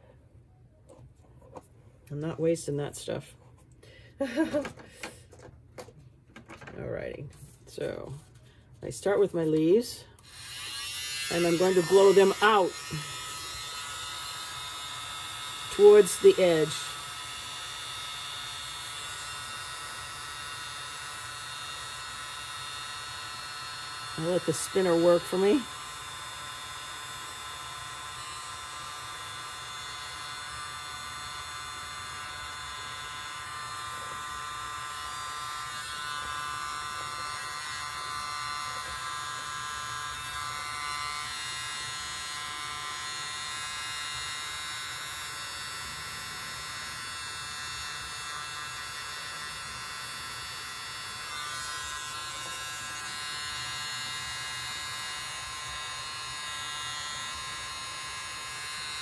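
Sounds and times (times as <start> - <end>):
toy leaf blower buzzing: 4.2 - 5.3, 9.2 - 59.0.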